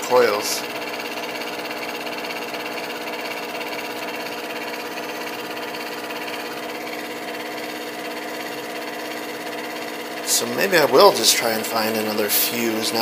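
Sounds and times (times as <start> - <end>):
blower motor buzzing hum: 0.0 - 13.0.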